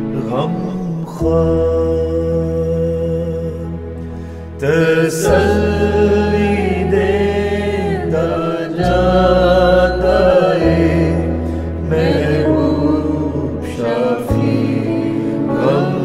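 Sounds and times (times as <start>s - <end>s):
sustained low accompaniment: 0.0s - 16.0s
voices singing a hymn: 0.0s - 16.0s.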